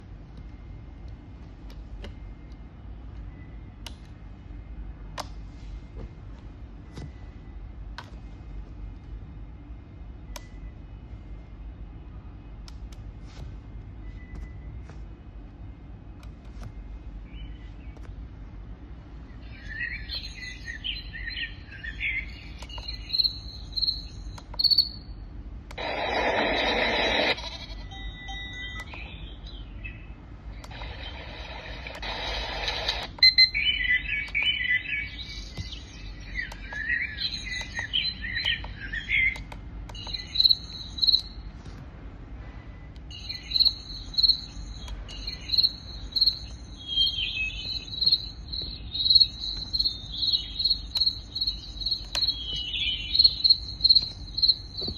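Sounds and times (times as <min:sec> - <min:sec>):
recorded bird song: 0:00.0 - 0:13.0, 0:13.8 - 0:41.6, 0:42.4 - 0:54.9.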